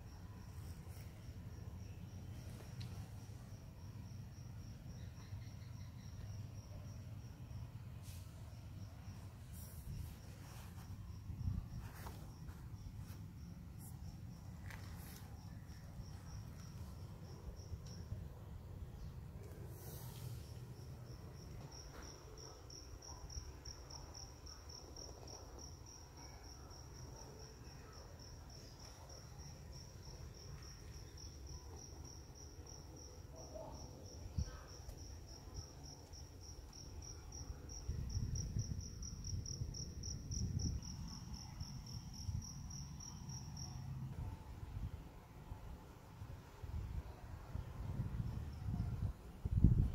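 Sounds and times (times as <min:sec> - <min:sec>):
cricket chirping: 0:00.0 - 0:45.0.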